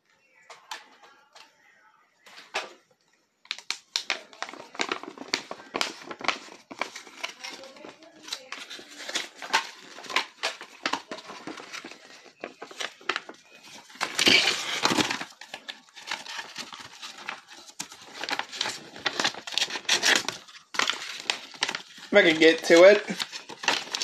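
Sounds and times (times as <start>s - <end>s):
paper crinkling and rustling: 3.5s - 24.0s.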